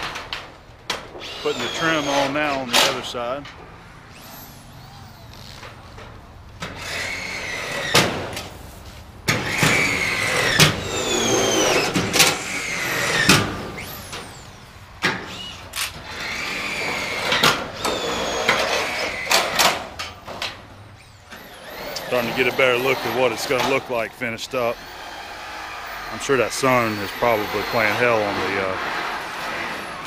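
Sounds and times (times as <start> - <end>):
screw gun whine: 1.1 - 2.9, 4.1 - 5.8, 6.7 - 8.1, 9.3 - 24.0, 24.7 - 29.9.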